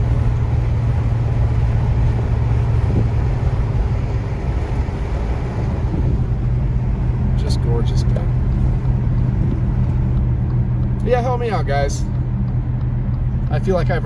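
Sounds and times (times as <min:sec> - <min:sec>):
car engine hum: 0:00.0 - 0:14.0
road noise: 0:00.0 - 0:14.0.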